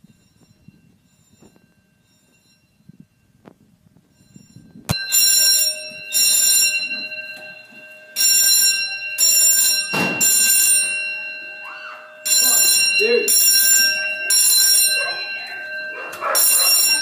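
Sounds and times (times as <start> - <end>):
fire alarm bell ringing: 0.0 - 17.0.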